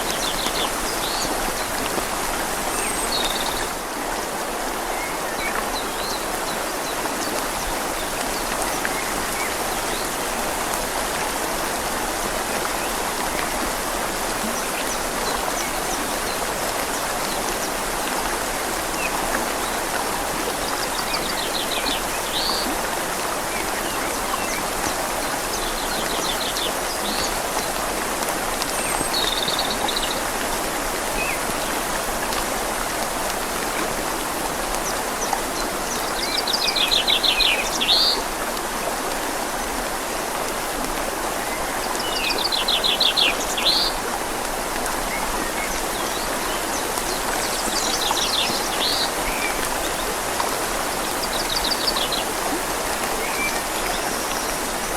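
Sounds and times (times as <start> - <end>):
rain falling on leaves: 0.0 - 54.9
river flowing: 0.0 - 54.9.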